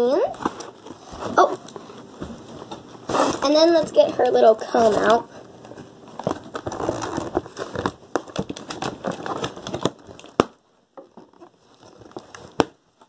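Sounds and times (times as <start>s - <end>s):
packaging crinkling and rustling: 0.2s - 13.0s.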